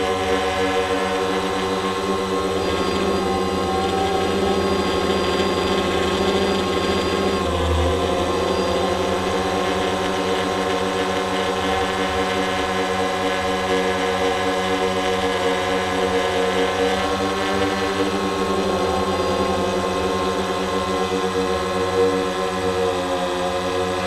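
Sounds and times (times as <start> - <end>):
drone propellers buzzing: 0.0 - 24.0.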